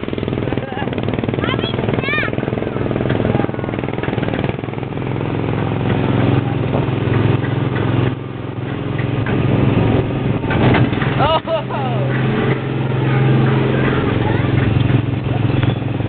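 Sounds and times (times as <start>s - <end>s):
small gasoline engine droning: 0.0s - 16.0s.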